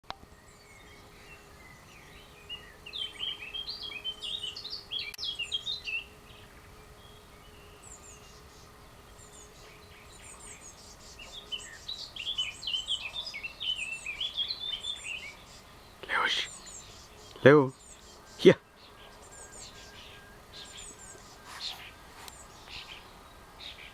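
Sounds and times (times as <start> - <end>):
songbird singing: 0.0 - 23.9
faint steady hum: 0.1 - 23.9.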